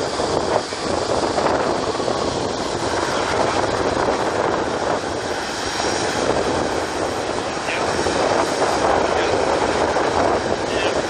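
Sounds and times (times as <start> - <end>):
jet engines taxiing: 0.0 - 11.0.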